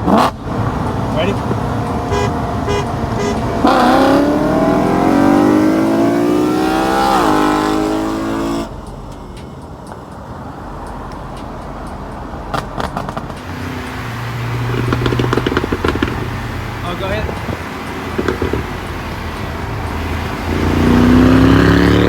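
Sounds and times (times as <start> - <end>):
car engine revving under throttle: 0.0 - 9.0, 11.2 - 22.0.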